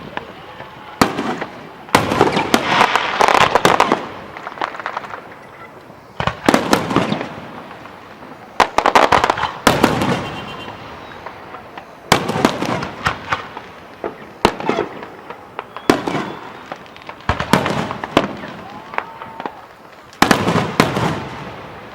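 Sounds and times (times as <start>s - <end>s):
firework bangs: 0.0s - 21.9s
firework crackling: 0.0s - 21.9s.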